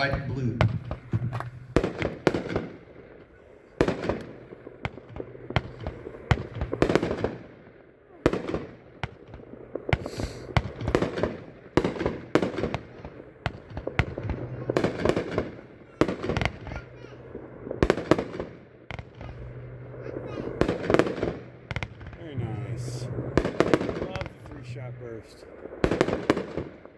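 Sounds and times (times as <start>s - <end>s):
fireworks booms with crackle: 0.0s - 26.9s.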